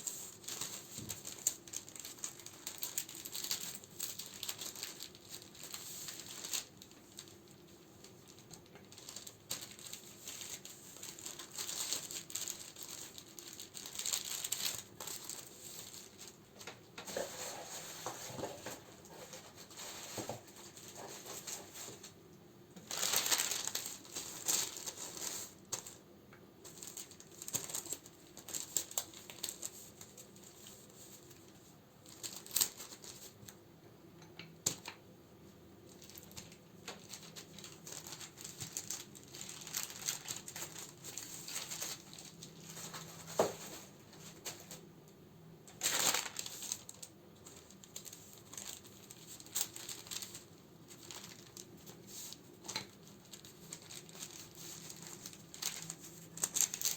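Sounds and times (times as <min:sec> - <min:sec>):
plastic and paper crinkling: 0:00.0 - 0:33.6, 0:35.6 - 0:56.9.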